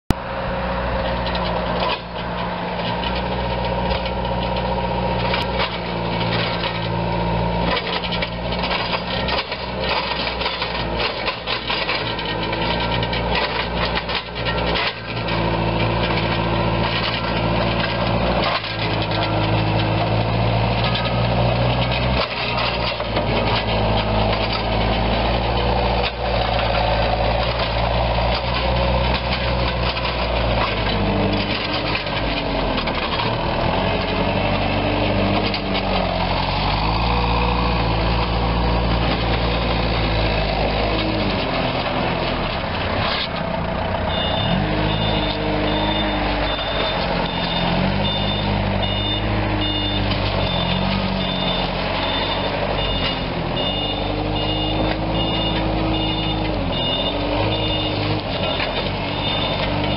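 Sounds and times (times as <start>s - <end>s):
diesel engine running: 0.1s - 59.9s.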